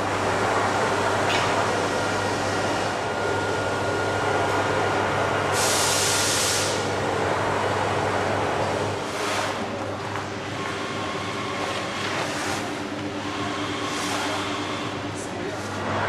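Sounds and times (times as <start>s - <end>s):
printing machinery humming: 0.0s - 16.0s.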